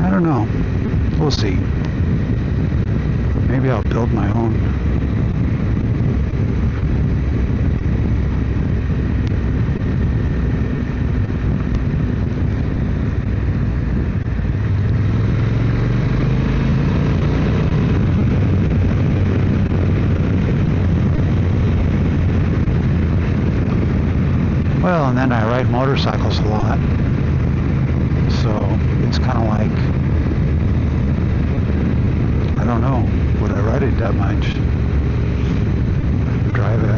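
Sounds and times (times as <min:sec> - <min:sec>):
motorcycle engine running: 0:00.0 - 0:36.9
wind and road rush: 0:00.0 - 0:36.9.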